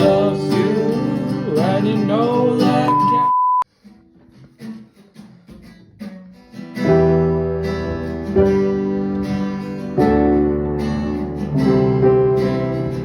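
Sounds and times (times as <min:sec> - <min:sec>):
acoustic guitar picked notes: 0:00.0 - 0:13.0
acoustic guitar strummed chords: 0:00.0 - 0:13.0.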